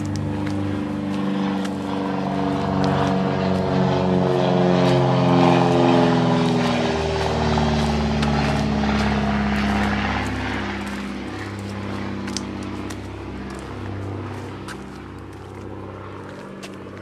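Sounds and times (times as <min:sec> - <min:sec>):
passing engine droning: 0:00.0 - 0:17.0.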